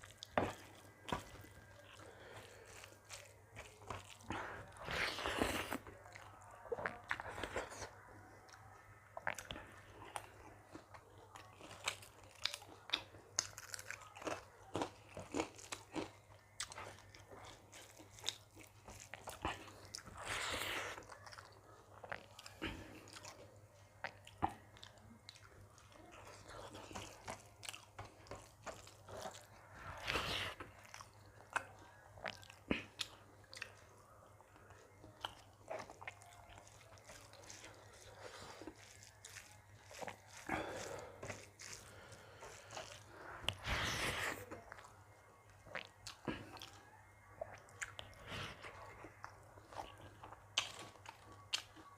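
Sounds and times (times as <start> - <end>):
chewing and biting food: 0.0 - 51.9.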